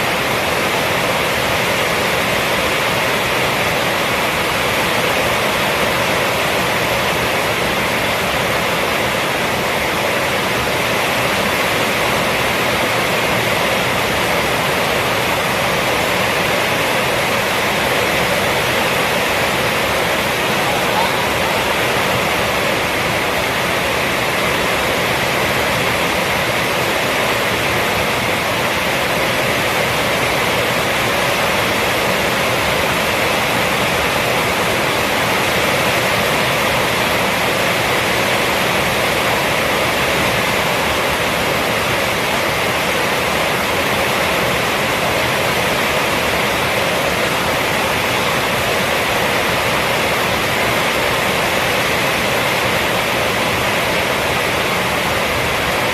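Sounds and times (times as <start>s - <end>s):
heavy rain on a roof: 0.0s - 55.9s.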